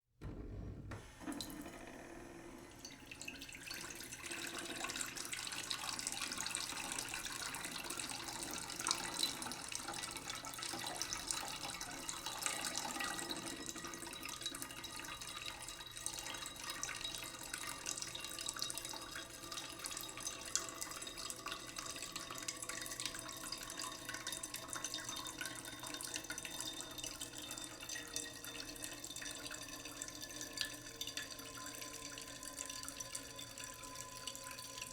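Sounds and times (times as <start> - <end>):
tap water running into a pot: 2.7 - 34.9.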